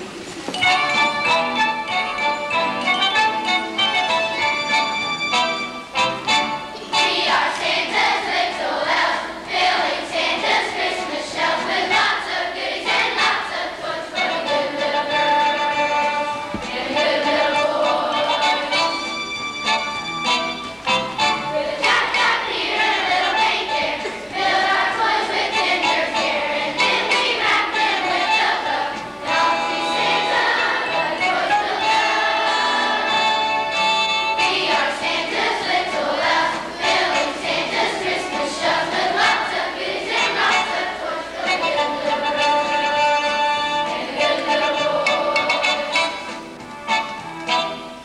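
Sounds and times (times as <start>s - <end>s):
children's choir singing: 0.0s - 20.5s, 21.1s - 47.8s
musical accompaniment: 0.0s - 48.0s.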